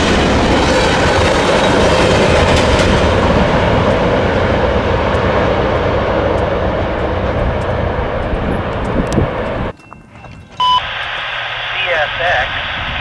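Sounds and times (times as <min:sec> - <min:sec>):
train wheels rumbling on rail: 0:00.0 - 0:10.6.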